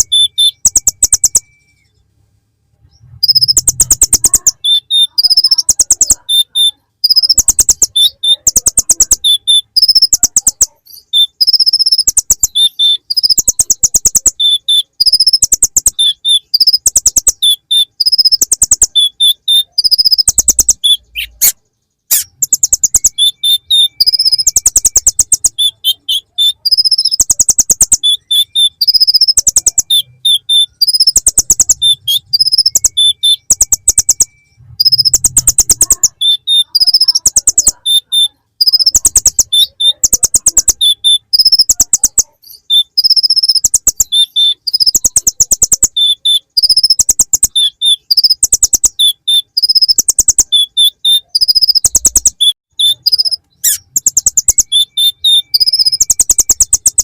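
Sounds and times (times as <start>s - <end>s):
bird singing chattering song: 0.0s - 2.1s, 2.8s - 57.0s.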